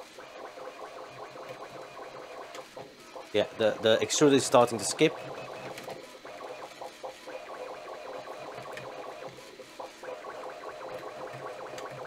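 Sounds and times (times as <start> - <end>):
printer motor hum: 0.0 - 12.0.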